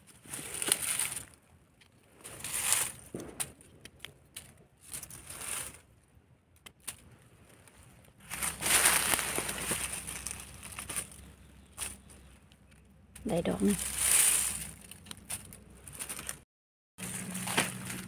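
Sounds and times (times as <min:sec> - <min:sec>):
dry leaves crackling and rustling: 0:00.0 - 0:06.0, 0:06.8 - 0:16.4, 0:17.0 - 0:18.0.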